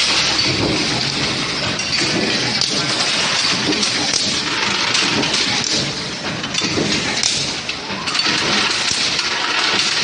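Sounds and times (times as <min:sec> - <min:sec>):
forging machinery running: 0:00.0 - 0:10.0
small metal clanks and knocks: 0:00.0 - 0:10.0.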